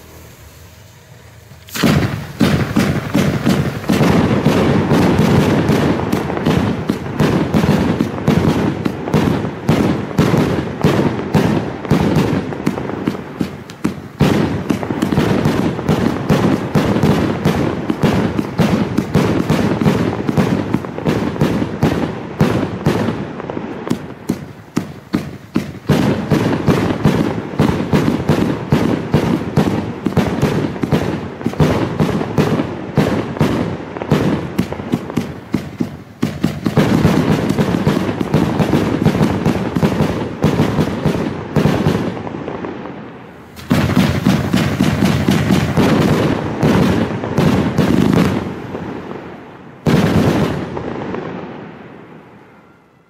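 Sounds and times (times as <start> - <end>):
fireworks launch thumps and bursts: 0.0 - 42.8, 43.4 - 51.4.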